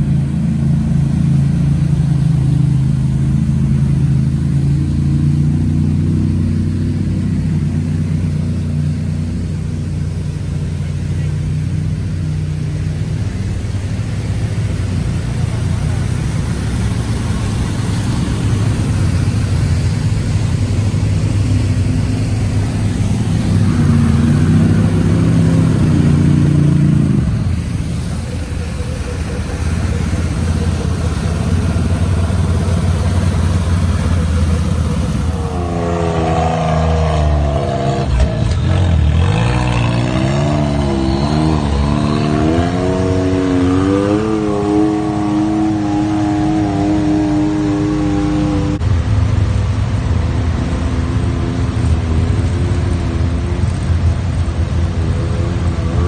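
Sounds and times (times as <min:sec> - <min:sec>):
engine revving: 0:00.0 - 0:56.0
off-road vehicle engines: 0:00.0 - 0:56.0
rushing water: 0:00.0 - 0:56.0.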